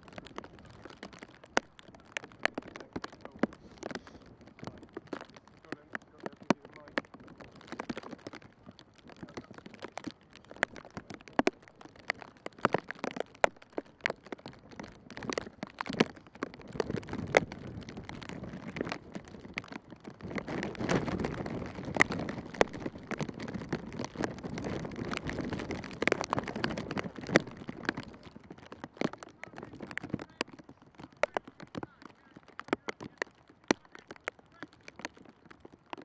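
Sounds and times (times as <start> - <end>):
outdoor background noise: 0.0 - 36.0
sharp taps and knocks: 0.1 - 36.0.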